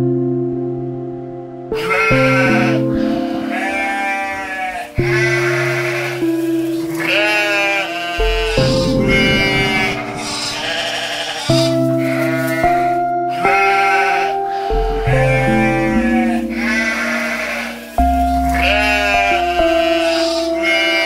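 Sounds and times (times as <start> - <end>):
music with slow held chords: 0.0 - 21.0
sheep bleating: 1.8 - 21.0.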